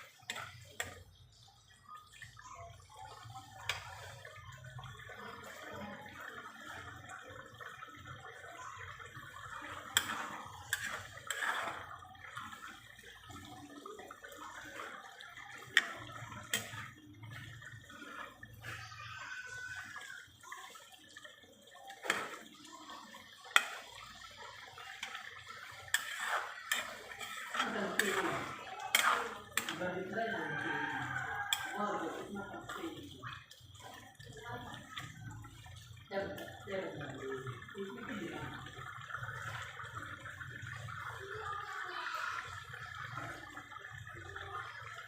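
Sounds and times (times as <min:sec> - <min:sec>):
water sounds in a kitchen: 0:00.0 - 0:45.0.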